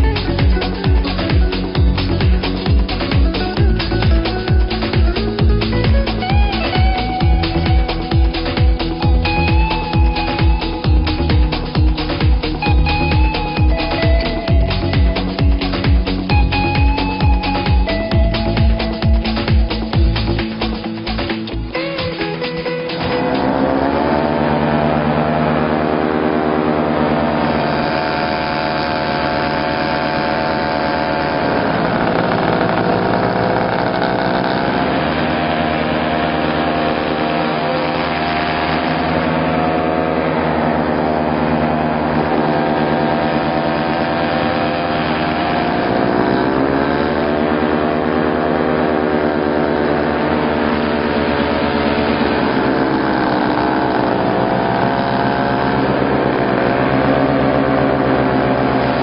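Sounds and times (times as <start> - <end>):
paramotor engine and propeller: 0.0 - 59.0.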